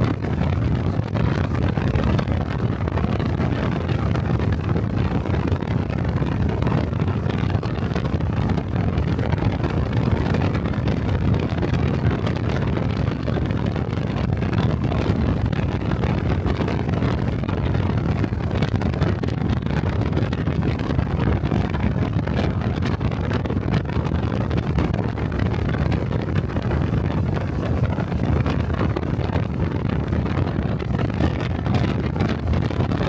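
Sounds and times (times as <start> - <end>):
wind on microphone: 0.0 - 33.0.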